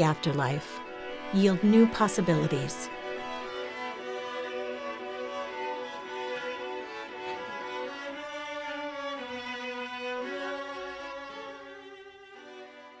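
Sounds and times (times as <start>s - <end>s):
violin playing long notes: 0.0s - 13.0s.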